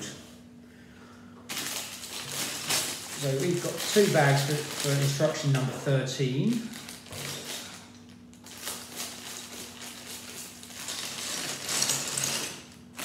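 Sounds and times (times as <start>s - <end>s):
plastic bag crinkling: 1.5s - 13.0s.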